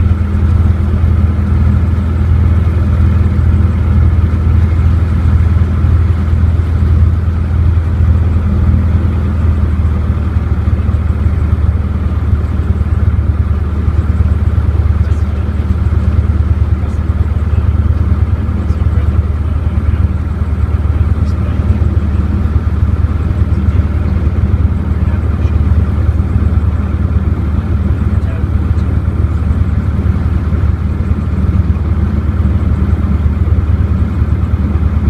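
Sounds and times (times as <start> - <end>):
aircraft engine drone: 0.0 - 35.0.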